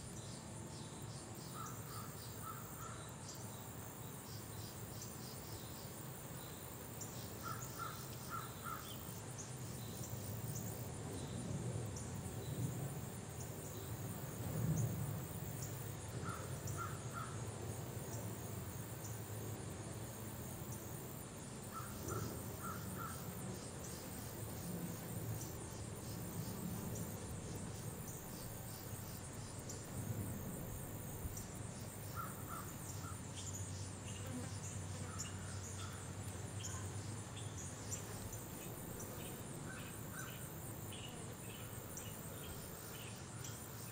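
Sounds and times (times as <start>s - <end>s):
insects trilling: 0.0s - 43.9s.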